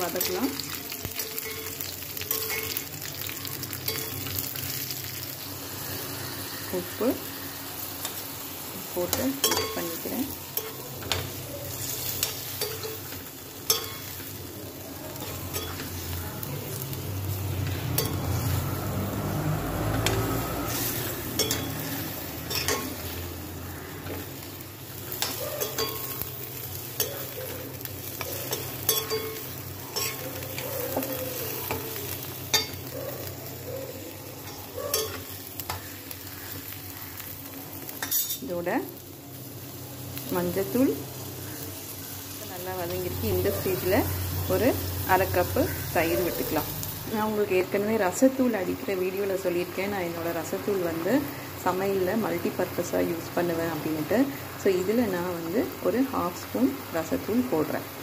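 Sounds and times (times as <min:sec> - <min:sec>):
vegetables sizzling in oil: 0:00.0 - 0:58.0.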